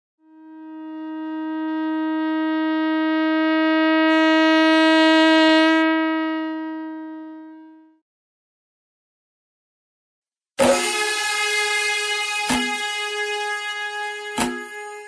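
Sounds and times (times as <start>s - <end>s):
horn blowing long note: 0.2s - 8.0s, 10.6s - 15.0s.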